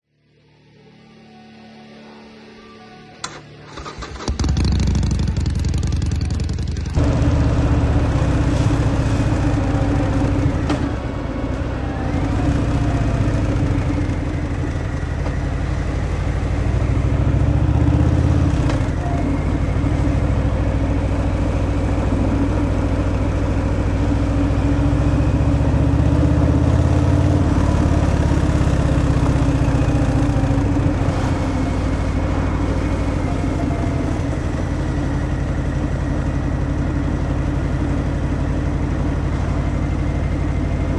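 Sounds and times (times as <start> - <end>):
motorcycle engine revving: 3.7 - 40.9.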